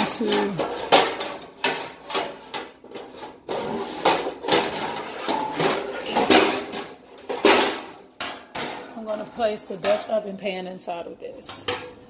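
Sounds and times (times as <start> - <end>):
metal pans clanking together: 0.0 - 10.3, 11.4 - 12.0.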